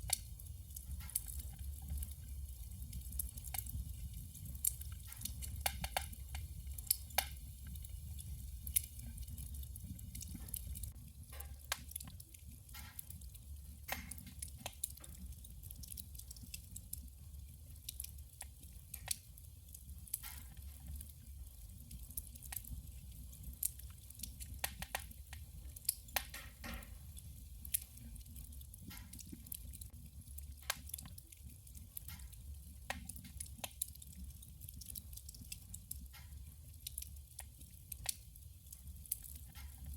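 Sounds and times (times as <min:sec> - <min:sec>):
low rumble of fire: 0:00.0 - 0:39.9
wood crackling and popping: 0:00.0 - 0:39.9.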